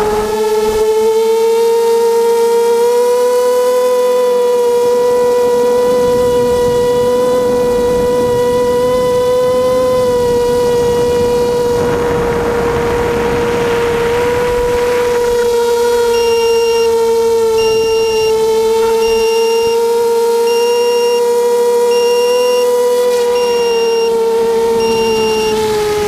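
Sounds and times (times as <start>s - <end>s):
drone motors and propellers whining: 0.0s - 26.0s.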